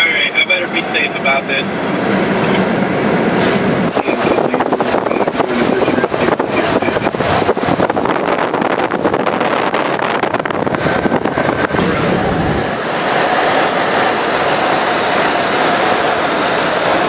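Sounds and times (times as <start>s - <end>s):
wind and road noise in car: 0.0s - 17.0s
wind buffeting microphone: 1.7s - 16.4s.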